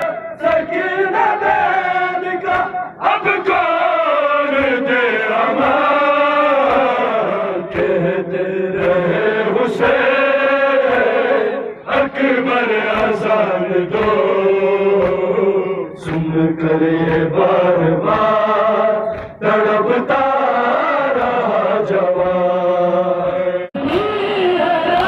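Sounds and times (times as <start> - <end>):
hands slapping chests: 0.0 - 10.1, 11.9 - 22.6
men chanting over loudspeaker: 0.0 - 24.4.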